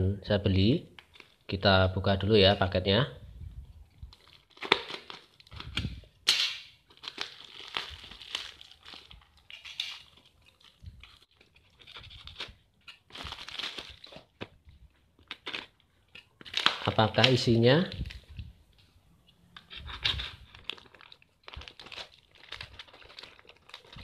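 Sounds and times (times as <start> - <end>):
plastic crinkling and tearing: 1.0 - 1.6, 4.0 - 18.5, 19.6 - 24.0.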